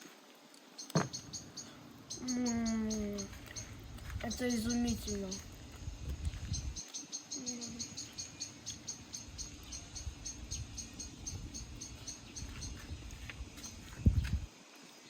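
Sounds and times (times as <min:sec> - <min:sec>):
low background noise: 0:00.0 - 0:15.0
crickets chirping: 0:00.8 - 0:15.0.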